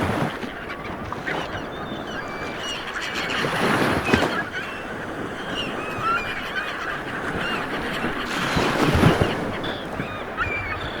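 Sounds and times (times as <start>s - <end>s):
birds chirping and whistling: 1.2s - 11.0s.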